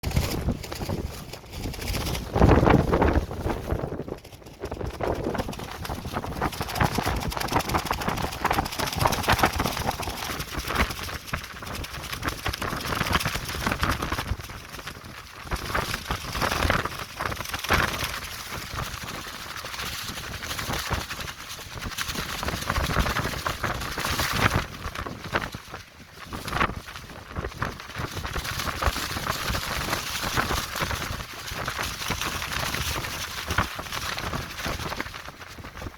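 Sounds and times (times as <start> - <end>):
plastic sheeting flapping in wind: 0.0 - 35.9
wind noise: 0.0 - 35.9.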